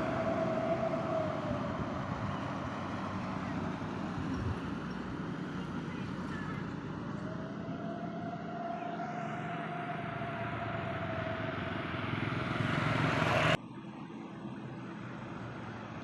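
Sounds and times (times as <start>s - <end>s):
road vehicle passing close: 0.0s - 16.0s
steady traffic noise: 0.0s - 16.0s.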